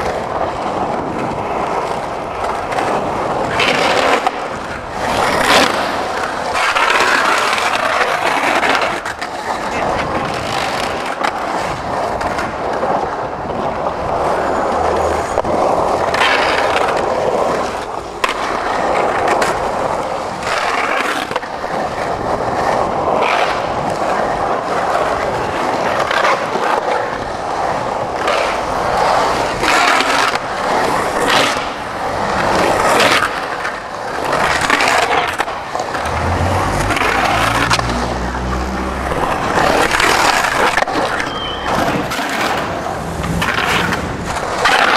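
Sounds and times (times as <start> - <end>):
skateboard clacks and landings: 0.0 - 44.9
skateboard trucks grinding: 0.0 - 44.9
skateboard wheels rolling on concrete: 0.0 - 44.9.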